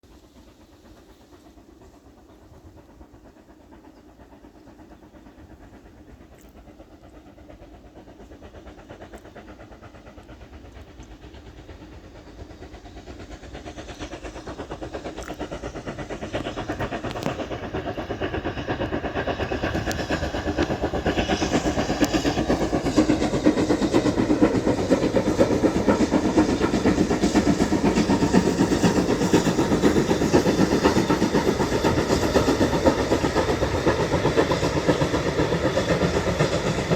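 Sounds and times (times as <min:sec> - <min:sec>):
steam locomotive approaching: 0:00.0 - 0:36.9.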